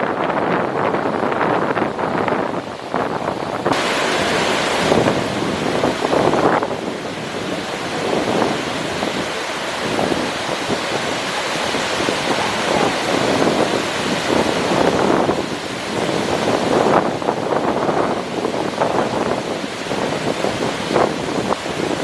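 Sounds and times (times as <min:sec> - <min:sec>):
waterfall rushing: 0:01.0 - 0:22.0.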